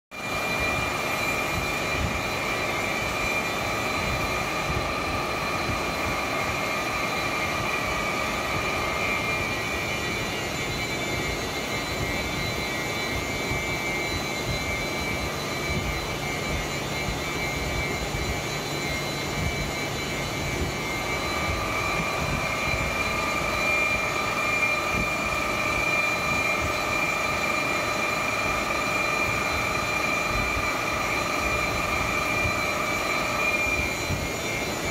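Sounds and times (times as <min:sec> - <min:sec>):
boring mill machining with whine: 0:00.1 - 0:34.9.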